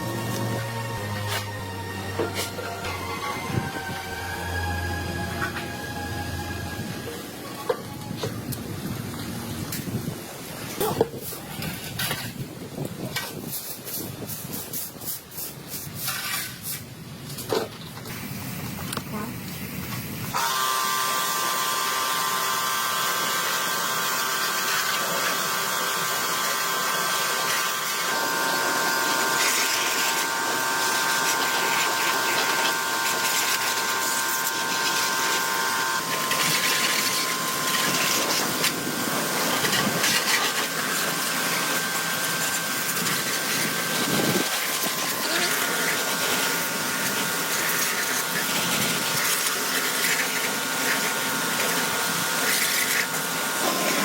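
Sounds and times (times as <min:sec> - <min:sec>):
electric power tool running: 0:00.0 - 0:10.1, 0:20.3 - 0:54.0.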